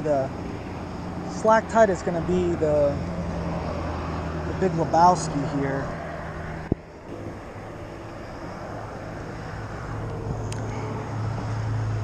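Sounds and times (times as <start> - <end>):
low engine hum: 0.0 - 12.0
outdoor noise haze: 0.0 - 12.0.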